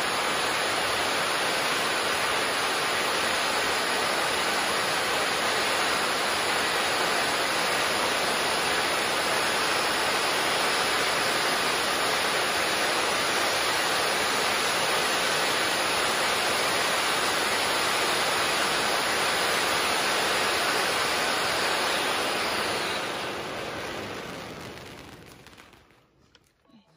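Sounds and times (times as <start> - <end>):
firework fountains whooshing: 0.0 - 26.6.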